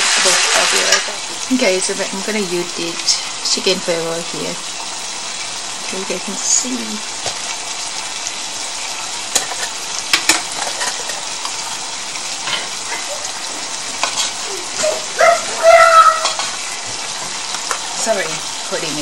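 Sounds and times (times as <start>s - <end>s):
stir-fry sizzling in skillet: 0.0s - 19.0s.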